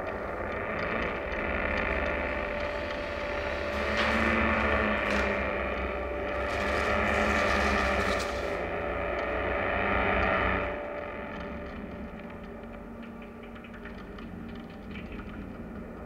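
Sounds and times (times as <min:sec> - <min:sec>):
rumbling ambient drone: 0:00.0 - 0:16.0.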